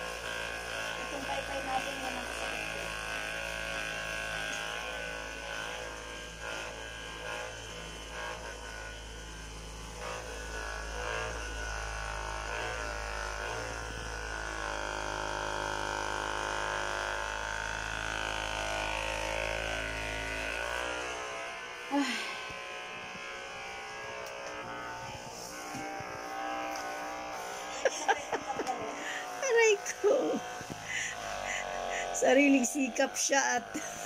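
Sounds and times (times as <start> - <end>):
massage gun buzzing: 0.0 - 34.0.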